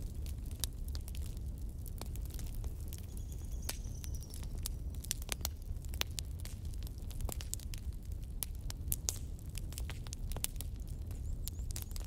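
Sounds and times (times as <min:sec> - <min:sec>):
logs crackling and popping: 0:00.0 - 0:12.0
low rumble of flame: 0:00.0 - 0:12.0.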